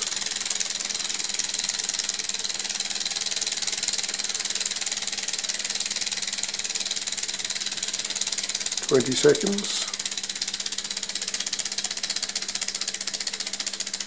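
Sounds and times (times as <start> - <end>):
small engine mechanical rattle: 0.0 - 14.0.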